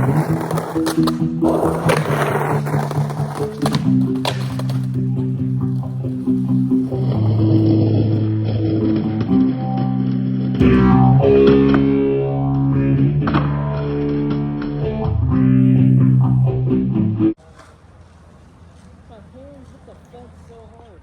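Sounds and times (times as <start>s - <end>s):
plucked guitar music: 0.0s - 17.4s.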